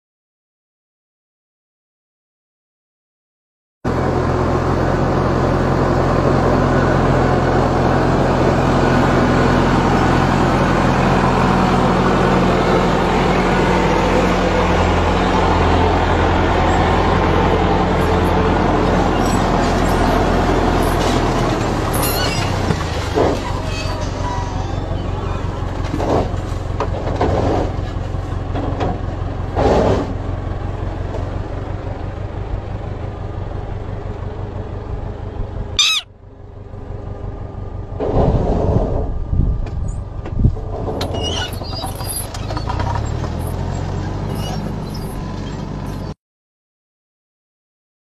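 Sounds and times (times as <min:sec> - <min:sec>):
tractor engine rumbling: 0:03.9 - 0:46.2.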